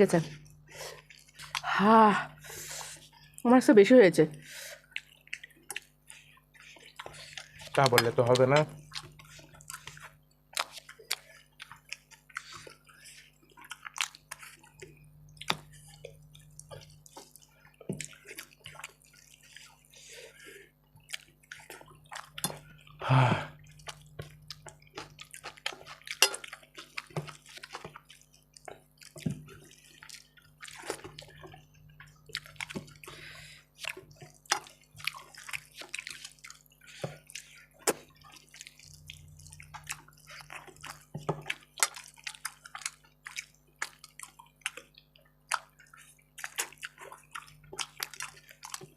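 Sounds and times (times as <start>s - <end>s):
wet eating sounds: 0.0s - 48.9s.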